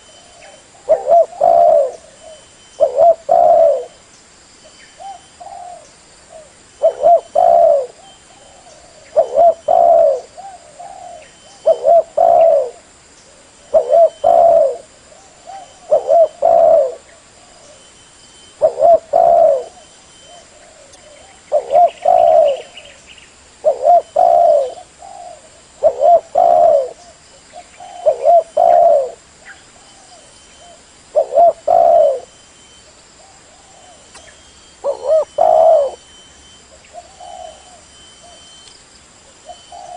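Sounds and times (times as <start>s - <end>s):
dove cooing: 0.0s - 4.0s, 5.0s - 17.9s, 18.6s - 23.0s, 23.6s - 32.3s, 33.2s - 36.1s, 36.9s - 38.6s, 39.3s - 39.9s.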